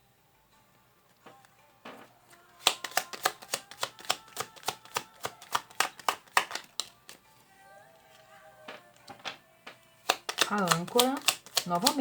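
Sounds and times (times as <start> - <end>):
cards being shuffled: 1.2 - 7.3, 8.1 - 12.0.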